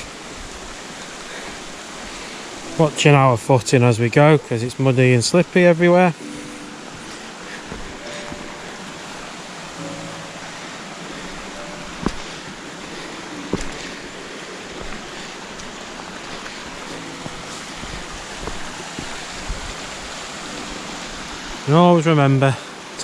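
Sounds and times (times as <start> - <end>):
fast-flowing stream rushing: 0.0 - 23.0.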